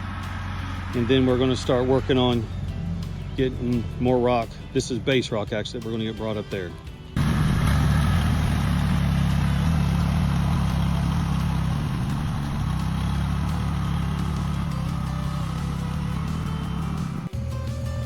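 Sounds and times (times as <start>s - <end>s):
vehicle engine running: 0.0s - 6.0s, 6.9s - 18.0s.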